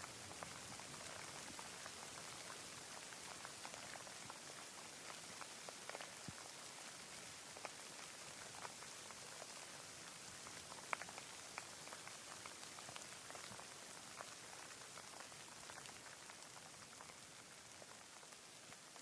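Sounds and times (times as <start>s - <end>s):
raindrops ticking: 0.0s - 19.0s.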